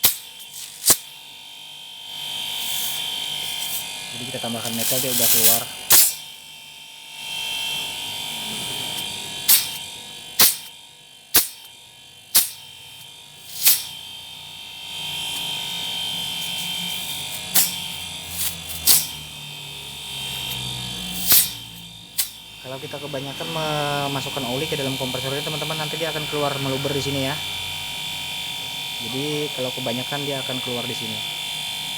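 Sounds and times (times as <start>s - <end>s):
steady electric buzz: 0.0s - 31.9s.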